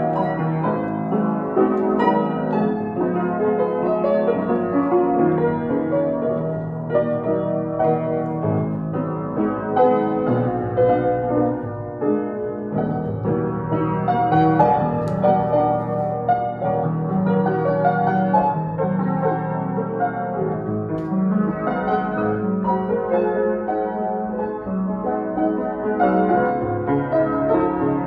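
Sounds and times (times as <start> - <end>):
slow piano piece: 0.0 - 28.0.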